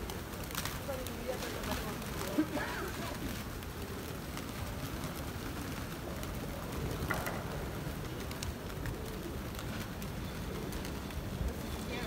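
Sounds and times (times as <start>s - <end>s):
pigeons flapping wings: 0.0s - 12.0s.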